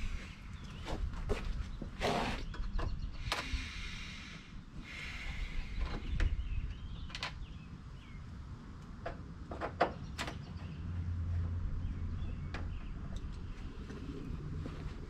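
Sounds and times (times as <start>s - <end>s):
steady low rumble: 2.7s - 15.0s.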